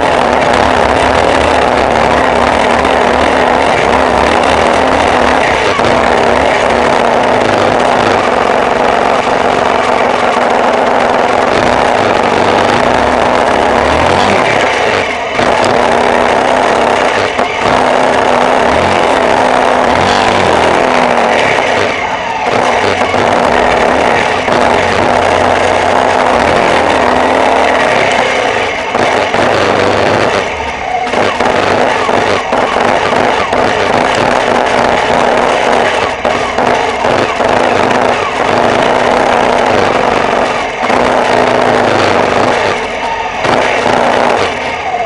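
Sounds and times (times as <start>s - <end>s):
vehicle engine running: 0.0s - 45.0s
wind and road noise: 0.0s - 45.0s.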